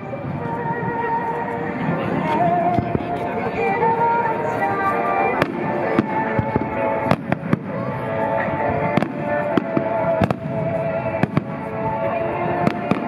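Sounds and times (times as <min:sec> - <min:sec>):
music playing: 0:00.0 - 0:13.0.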